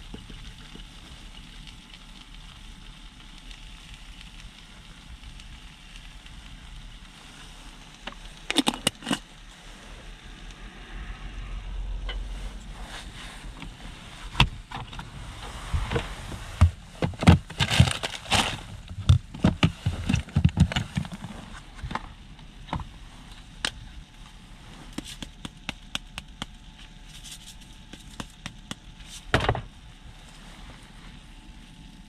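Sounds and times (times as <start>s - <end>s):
faint steady hiss: 0.0s - 32.0s.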